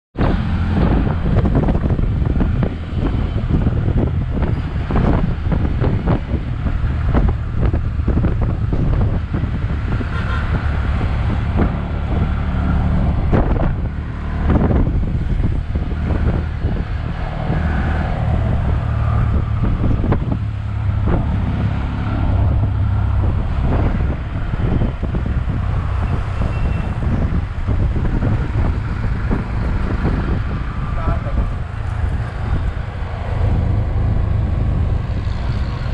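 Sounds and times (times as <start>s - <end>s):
auto-rickshaw engine running: 0.2s - 35.9s
traffic noise: 0.2s - 35.9s
wind on microphone: 0.2s - 35.9s.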